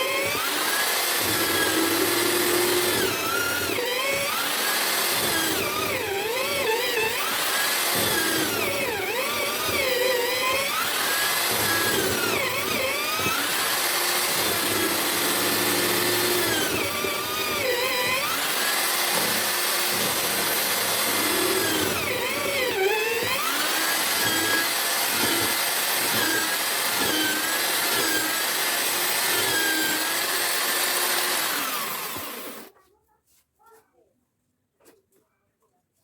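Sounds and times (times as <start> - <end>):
mortiser motor whining: 0.0 - 32.7.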